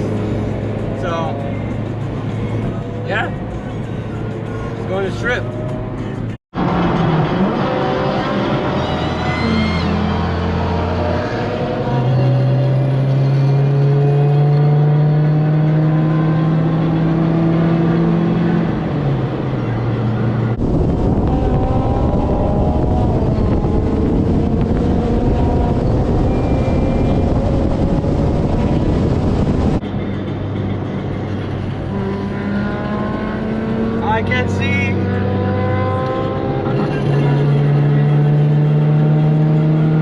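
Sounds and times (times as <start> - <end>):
road and wind rushing: 0.0 - 40.0
vehicle engine accelerating: 0.0 - 40.0.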